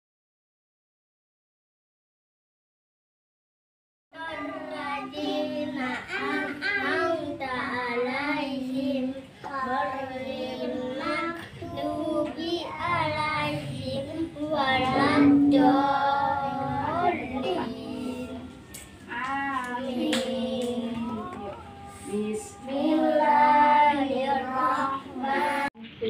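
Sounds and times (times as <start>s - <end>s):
children chanting prayer: 4.2s - 25.8s.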